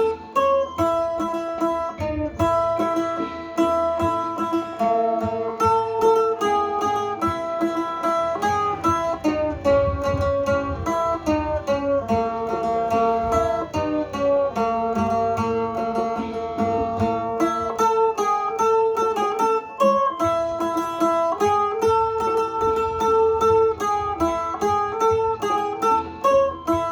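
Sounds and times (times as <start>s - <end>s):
plucked lute melody: 0.0s - 26.9s.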